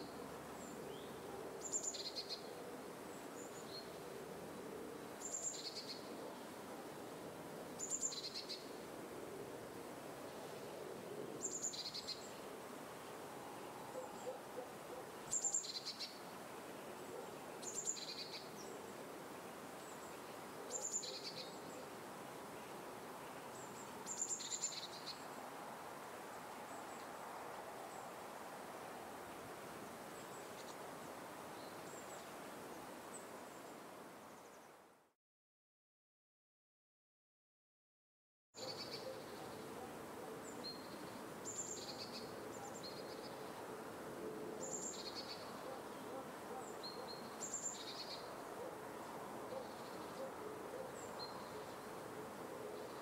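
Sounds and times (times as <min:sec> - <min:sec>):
outdoor ambience hiss: 0:00.0 - 0:35.2, 0:38.6 - 0:53.0.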